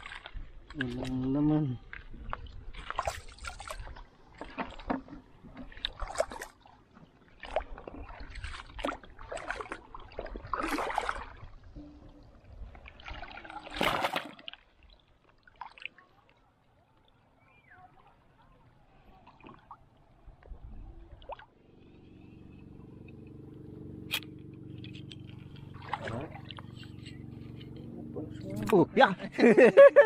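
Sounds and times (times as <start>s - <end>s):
seawater sloshing and splashing: 0.0s - 16.6s, 18.9s - 29.2s.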